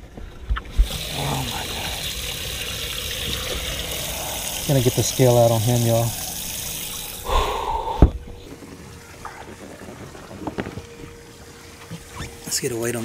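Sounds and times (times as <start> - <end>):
faint steady hum: 0.0 - 13.0
water gushing into a tank: 0.6 - 12.6.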